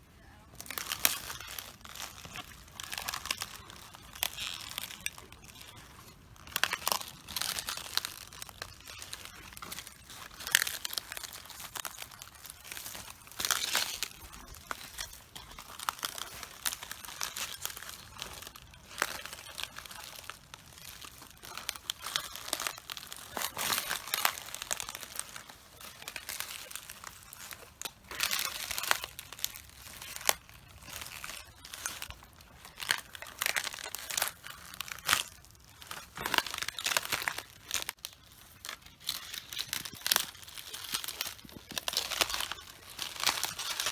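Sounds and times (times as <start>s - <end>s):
cabbage leaves crunching underfoot: 0.0s - 43.9s.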